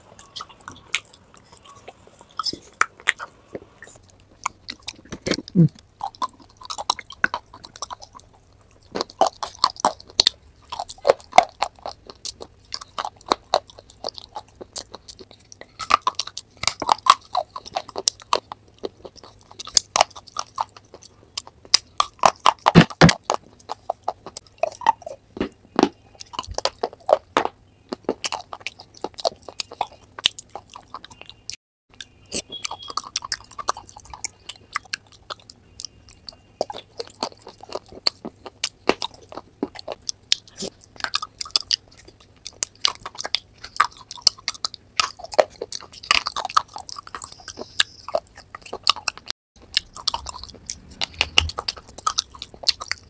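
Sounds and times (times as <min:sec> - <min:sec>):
crunching and chewing: 0:00.0 - 0:53.0.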